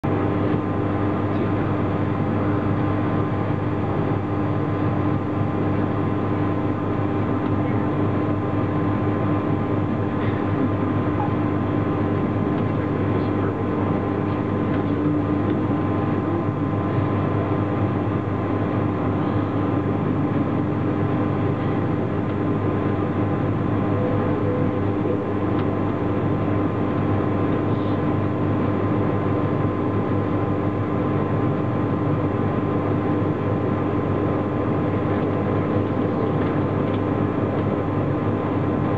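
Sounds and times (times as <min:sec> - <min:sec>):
electric train motors and wheels humming: 0:00.1 - 0:38.9.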